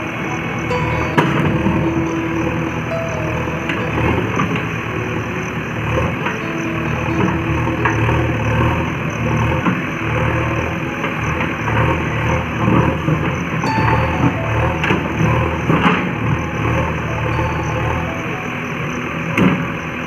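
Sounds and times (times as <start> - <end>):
diesel engine working: 0.0 - 20.0.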